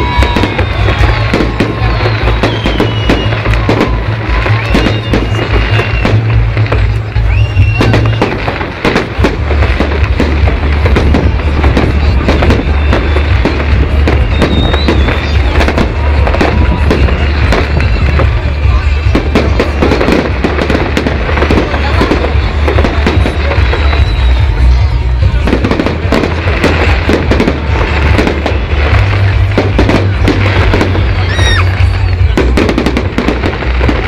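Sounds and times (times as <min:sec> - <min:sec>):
fireworks bangs and crackles: 0:00.0 - 0:34.0
loud music with heavy bass: 0:00.0 - 0:34.0.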